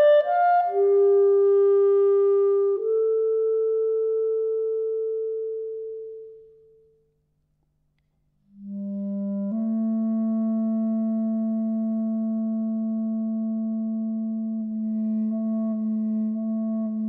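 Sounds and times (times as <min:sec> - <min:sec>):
clarinet playing long held notes: 0:00.0 - 0:06.8, 0:08.5 - 0:17.0.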